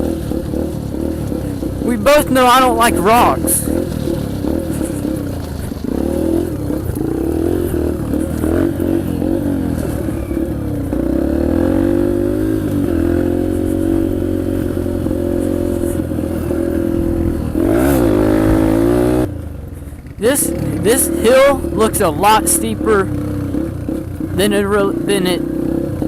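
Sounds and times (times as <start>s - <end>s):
dirt bike engine revving: 0.0s - 19.4s, 20.0s - 26.0s.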